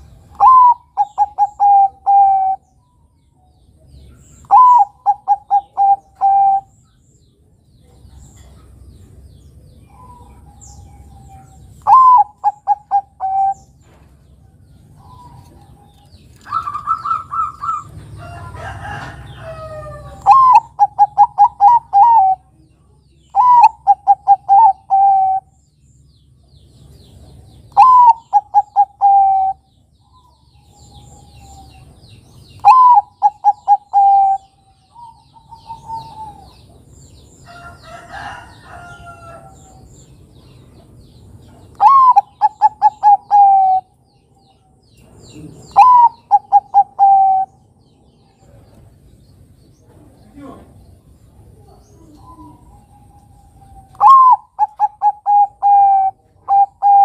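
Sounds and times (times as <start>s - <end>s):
dove cooing song: 0.0s - 6.8s, 9.8s - 22.6s, 23.2s - 25.6s, 26.8s - 39.8s, 40.8s - 48.9s, 50.3s - 57.0s.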